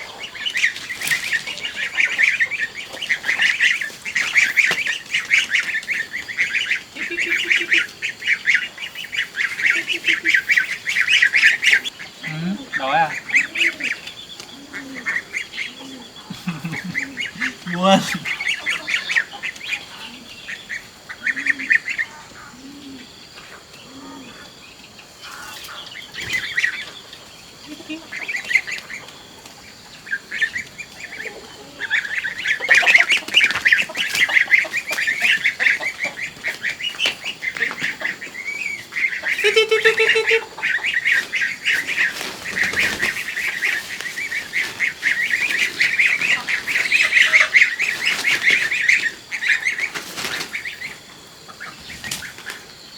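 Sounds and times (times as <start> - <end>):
ducks quacking: 0.0 - 52.7.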